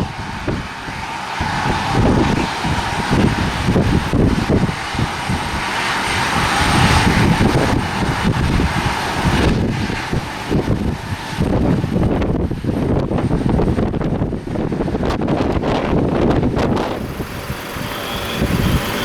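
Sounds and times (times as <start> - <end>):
jet engines rushing and whining: 0.0 - 19.0
wind buffeting microphone: 0.0 - 19.0.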